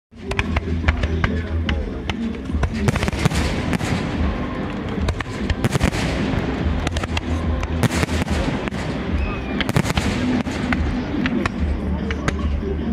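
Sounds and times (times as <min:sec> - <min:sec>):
fireworks bangs and crackling: 0:00.2 - 0:12.7.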